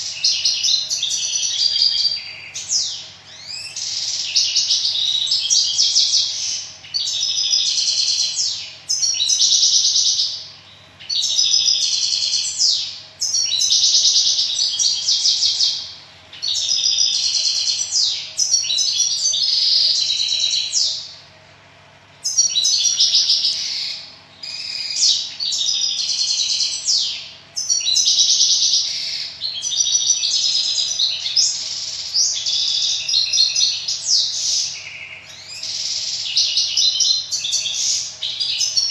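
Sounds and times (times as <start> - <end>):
songbird chirping and warbling: 0.0 - 38.9.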